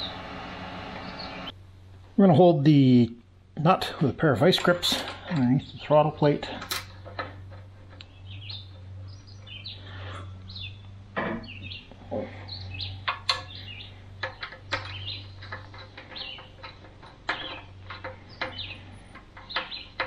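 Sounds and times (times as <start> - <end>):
steady low hum: 0.0 - 20.0
small birds chirping: 0.8 - 1.6, 4.6 - 20.0.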